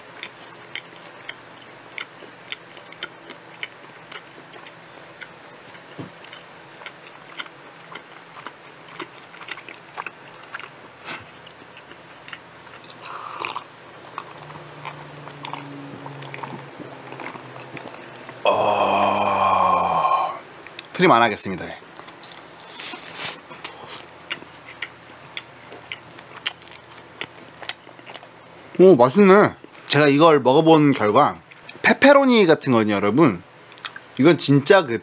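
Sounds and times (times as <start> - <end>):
person chewing food: 0.0 - 20.9, 21.9 - 28.8, 33.6 - 34.0.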